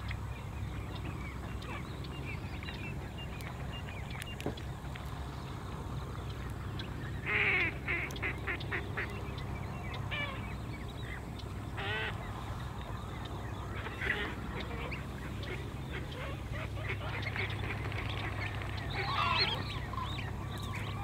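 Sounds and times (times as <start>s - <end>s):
birds honking: 0.0s - 21.0s
steady low hum: 0.0s - 21.0s.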